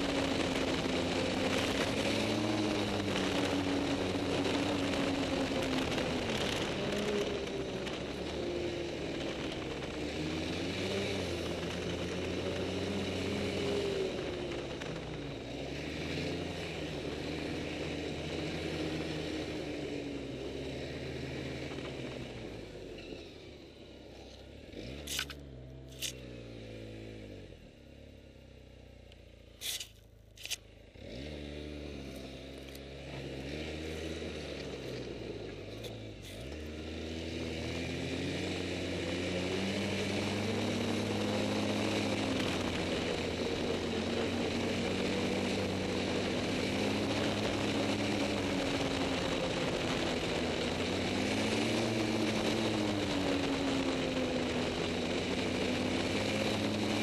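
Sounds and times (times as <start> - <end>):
snowmobile engine running: 0.0 - 22.9, 24.2 - 26.4, 31.2 - 57.0.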